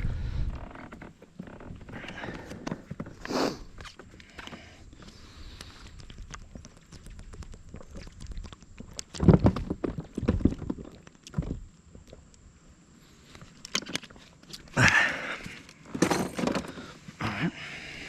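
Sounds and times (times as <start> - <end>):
gear clicking against a kayak: 0.0 - 17.0.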